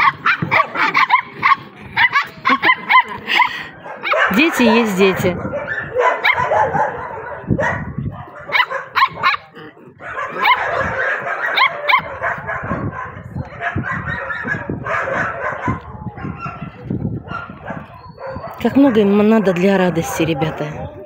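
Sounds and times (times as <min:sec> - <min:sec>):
puppies yipping and barking: 0:00.0 - 0:19.8.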